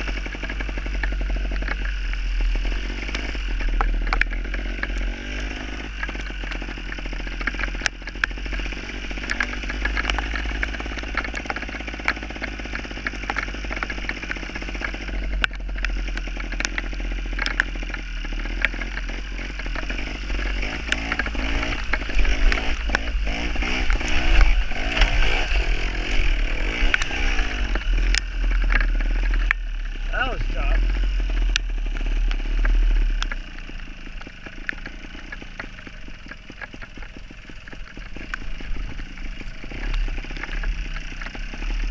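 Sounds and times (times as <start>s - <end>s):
motorcycle engine revving: 0.0s - 41.9s
steady low rumble: 0.0s - 41.9s
sharp clicks: 0.1s - 41.9s.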